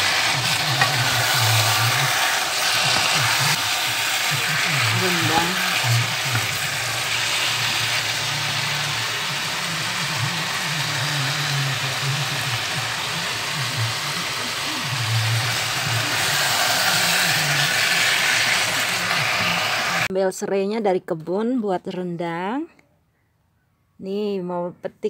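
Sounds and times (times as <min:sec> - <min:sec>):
meat sizzling in a wok: 0:00.0 - 0:20.1.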